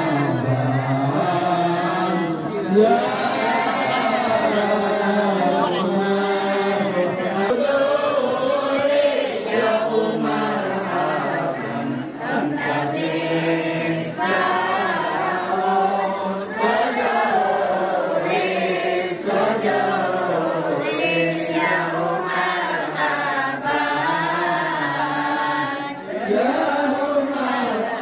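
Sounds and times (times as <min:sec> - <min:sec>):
men chanting a devotional song: 0:00.0 - 0:28.0.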